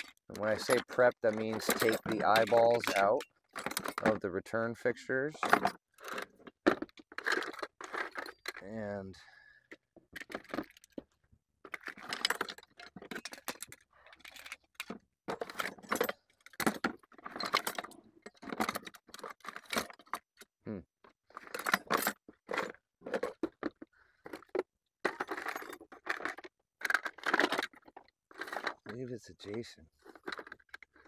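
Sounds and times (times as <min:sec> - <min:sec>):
metal tools rattling in toolbox: 0:00.0 - 0:04.6, 0:05.3 - 0:09.4, 0:10.2 - 0:11.0, 0:11.7 - 0:20.4, 0:21.3 - 0:31.0.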